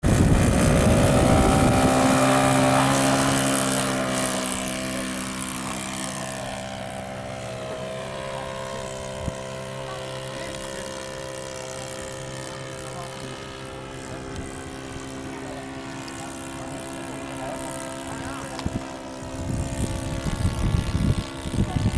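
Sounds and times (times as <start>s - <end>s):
model airplane engine: 0.0s - 21.9s.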